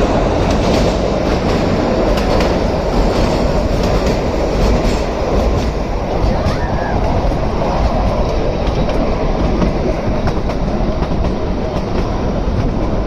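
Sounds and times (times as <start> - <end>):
train coaches rumbling: 0.0 - 13.0
wheels clicking on rails: 0.0 - 13.0.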